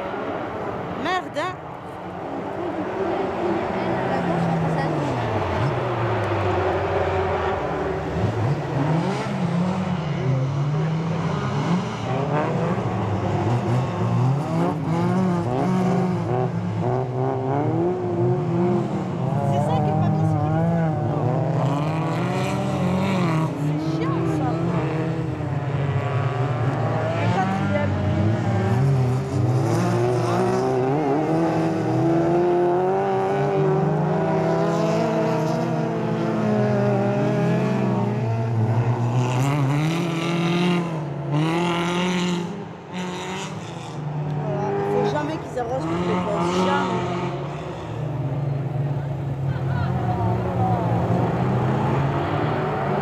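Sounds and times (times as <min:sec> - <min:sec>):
racing car engines revving: 0:00.0 - 0:53.0.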